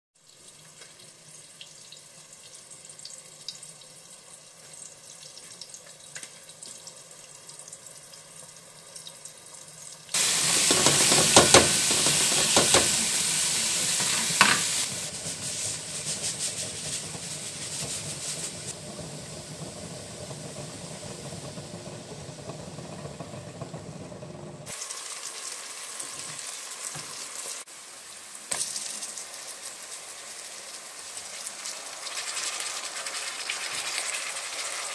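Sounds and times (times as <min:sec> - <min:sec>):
onions sizzling in oil: 0:00.2 - 0:34.9.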